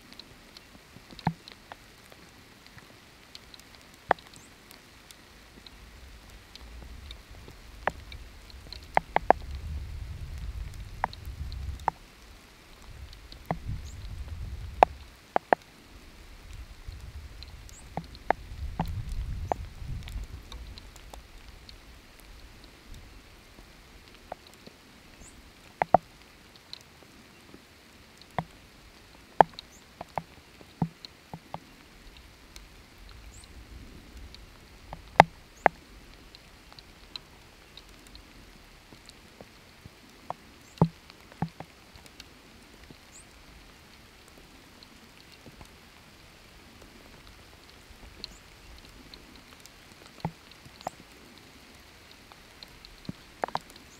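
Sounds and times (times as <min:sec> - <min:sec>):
faint steady hiss: 0:00.0 - 0:53.9
raindrops dripping: 0:00.0 - 0:53.9.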